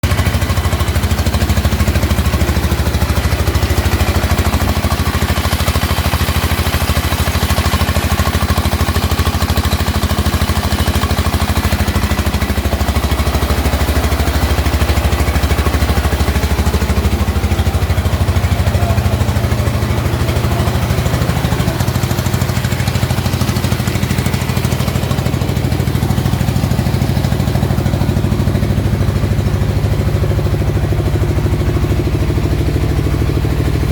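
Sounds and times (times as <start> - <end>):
single-cylinder engine running: 0.0 - 33.9.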